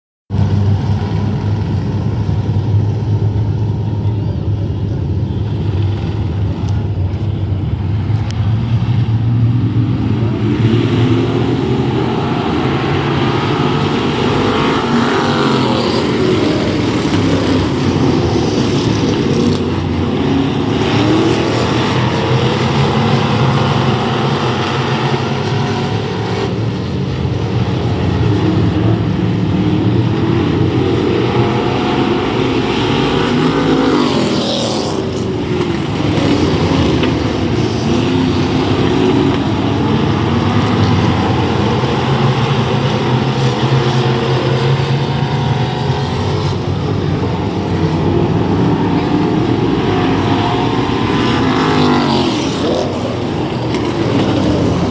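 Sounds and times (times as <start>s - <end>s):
race car engines droning: 0.3s - 54.9s
race cars passing: 0.3s - 54.9s.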